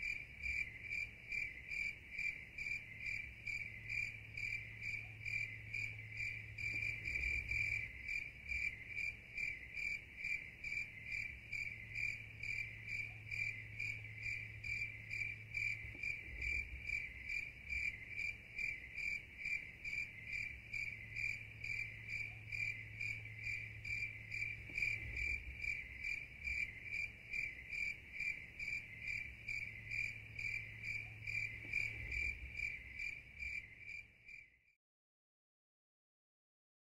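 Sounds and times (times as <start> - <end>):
insect chirping: 0.0 - 34.8.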